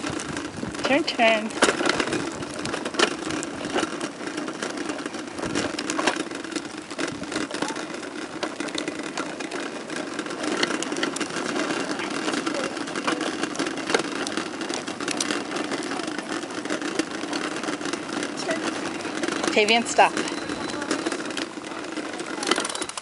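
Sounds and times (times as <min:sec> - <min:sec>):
plastic wheels rolling on asphalt: 0:00.0 - 0:23.0.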